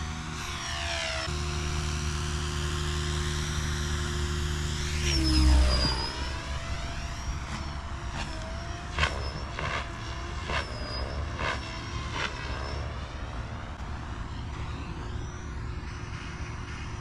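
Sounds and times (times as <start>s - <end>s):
model aircraft motor whining: 0.0s - 16.6s.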